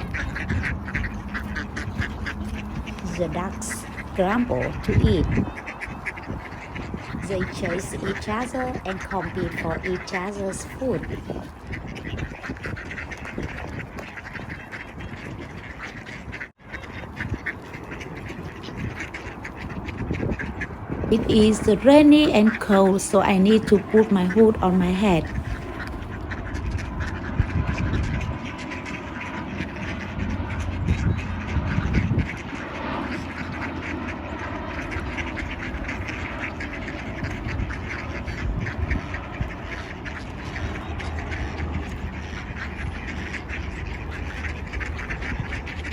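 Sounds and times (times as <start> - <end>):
ducks quacking: 0.0 - 45.9.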